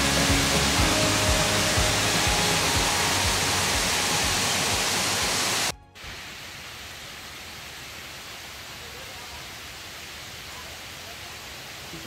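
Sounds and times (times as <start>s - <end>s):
faint outdoor hiss: 0.0s - 12.0s
waterfall rushing: 0.0s - 12.0s.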